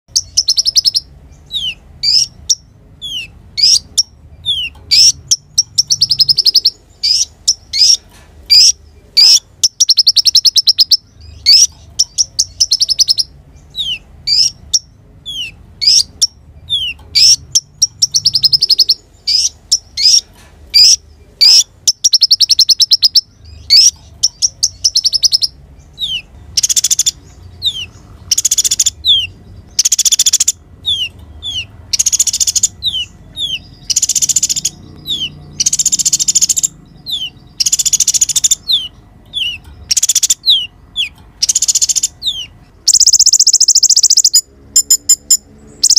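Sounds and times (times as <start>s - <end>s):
bird singing with buzzy trills: 0.1s - 45.9s.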